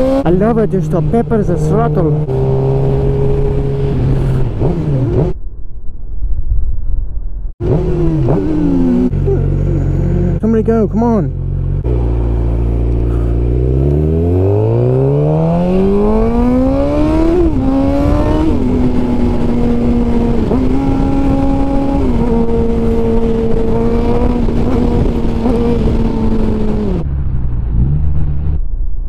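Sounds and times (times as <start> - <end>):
motorcycle engine accelerating: 0.0 - 5.8, 7.5 - 29.0.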